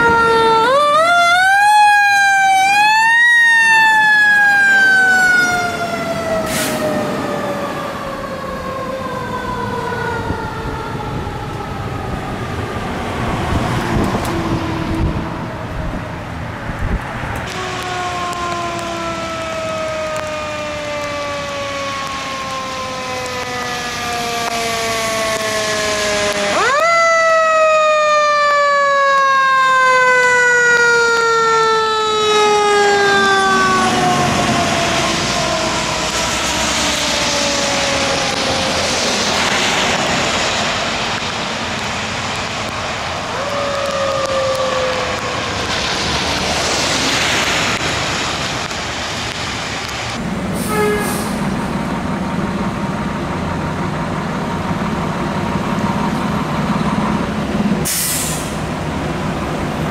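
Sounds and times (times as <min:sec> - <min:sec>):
truck passing: 0:00.0 - 0:59.9.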